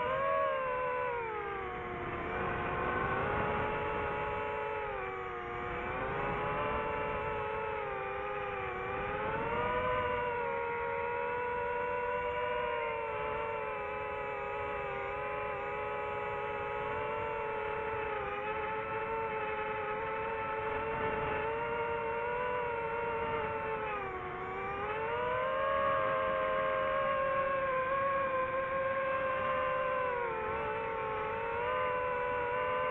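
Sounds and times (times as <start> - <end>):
drone propellers whining: 0.0 - 32.9.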